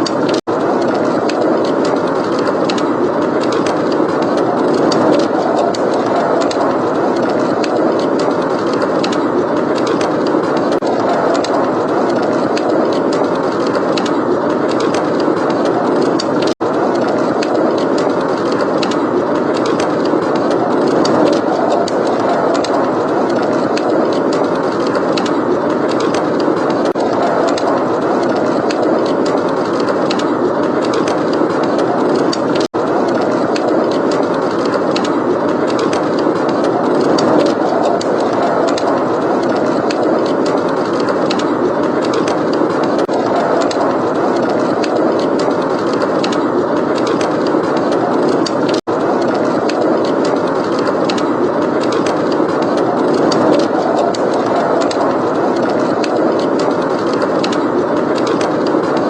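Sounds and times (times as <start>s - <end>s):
blizzard wind: 0.0s - 59.0s
wood fire crackling: 0.0s - 59.0s.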